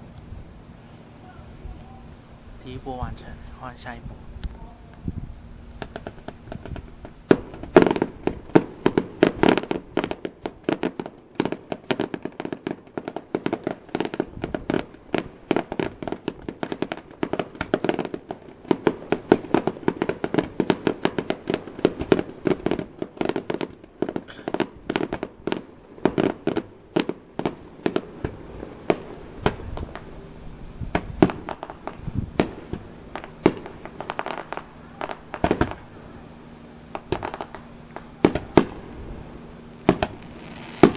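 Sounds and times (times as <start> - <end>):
fireworks banging: 0.0 - 40.9.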